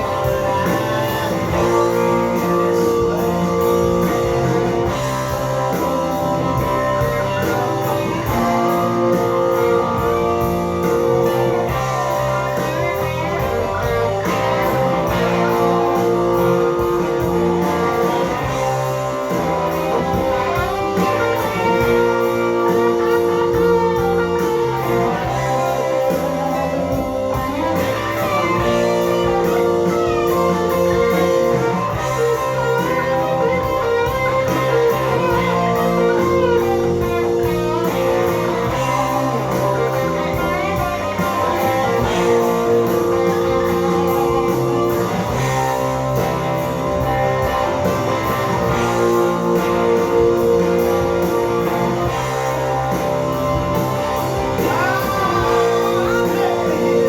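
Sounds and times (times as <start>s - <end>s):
electric guitar: 0.0s - 57.0s
southern rock music: 0.0s - 57.0s.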